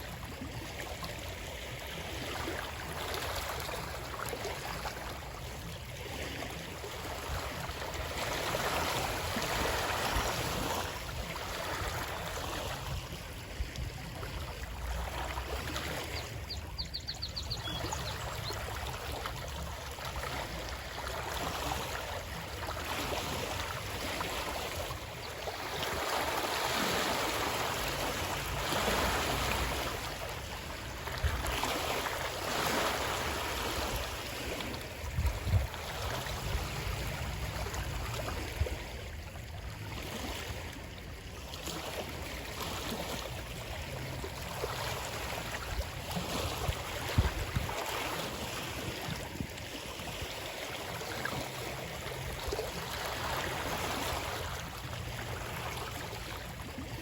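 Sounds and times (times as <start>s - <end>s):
water rushing and splashing: 0.0s - 57.0s.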